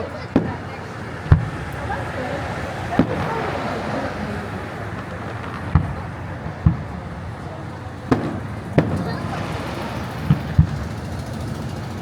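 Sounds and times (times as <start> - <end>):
fireworks booming: 0.0 - 11.7
outdoor background noise: 0.0 - 12.0.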